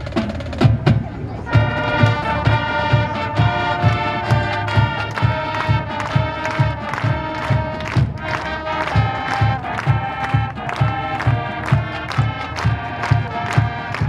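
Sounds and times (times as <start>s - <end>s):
brass holding chords: 1.5s - 14.0s.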